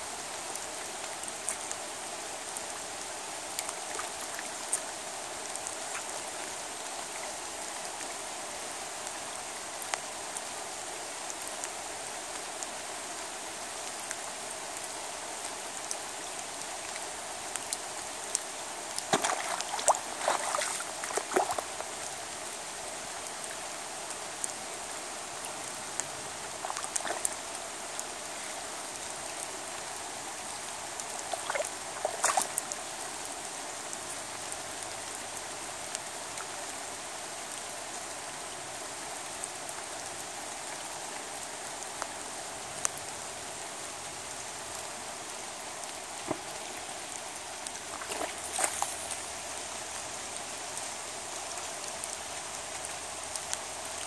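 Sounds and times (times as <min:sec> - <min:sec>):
rain falling on river: 0:00.0 - 0:54.0.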